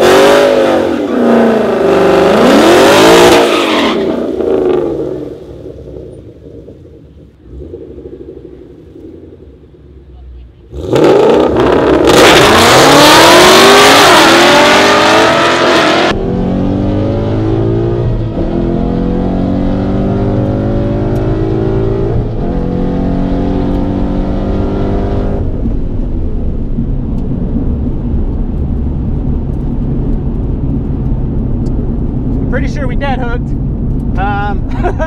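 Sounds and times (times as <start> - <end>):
car engine at full throttle: 0.0 - 35.0.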